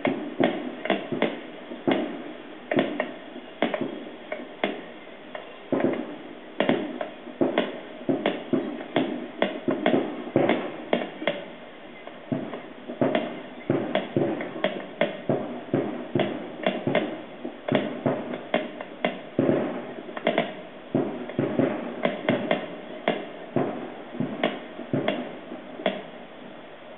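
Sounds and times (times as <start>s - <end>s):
fireworks bangs through tv speaker: 0.0s - 26.3s.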